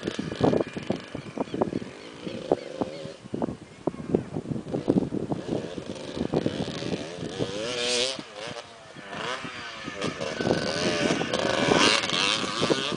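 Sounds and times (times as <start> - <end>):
motocross motorcycle engines revving: 0.0 - 12.9.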